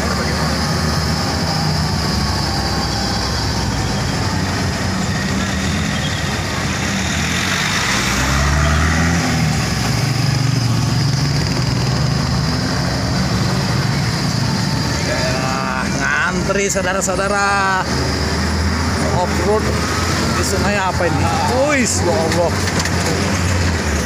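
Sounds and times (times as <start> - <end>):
jeep engine running: 0.0 - 24.0
road noise: 0.0 - 24.0
wind: 0.0 - 24.0.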